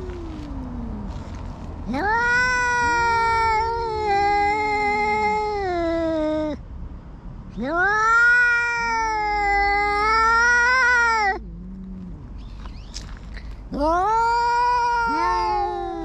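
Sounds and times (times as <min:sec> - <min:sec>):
cats yowling: 0:00.0 - 0:01.3, 0:01.9 - 0:06.6, 0:07.6 - 0:12.7, 0:13.7 - 0:16.0.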